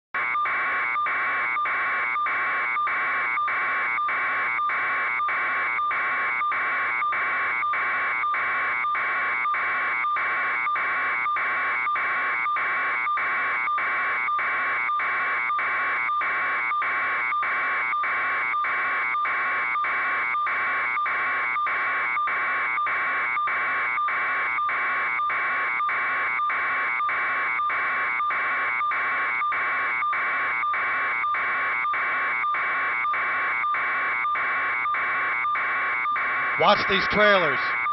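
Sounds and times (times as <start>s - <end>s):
pulsing electronic alarm buzz: 0.2s - 37.9s.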